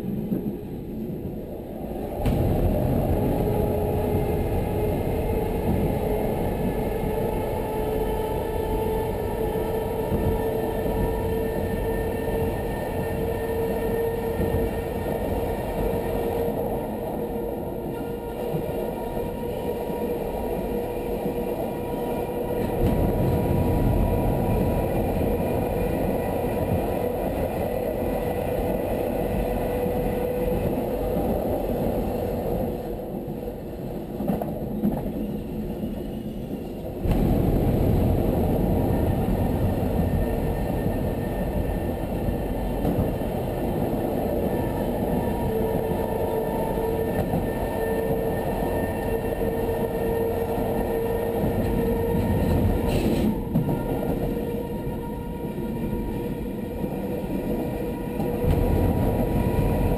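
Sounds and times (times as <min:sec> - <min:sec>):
electric train whine: 0:00.0 - 0:59.9
train wheels rumbling in tunnel: 0:00.0 - 0:59.9.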